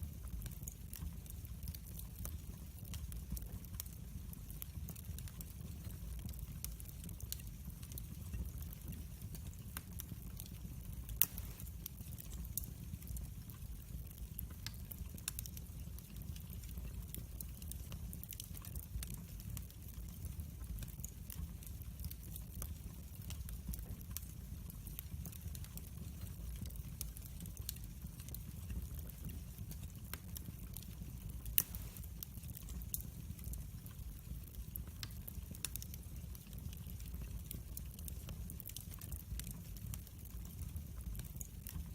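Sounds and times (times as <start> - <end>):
rumble of flames: 0.0 - 41.9
wood fire crackling: 0.0 - 41.9.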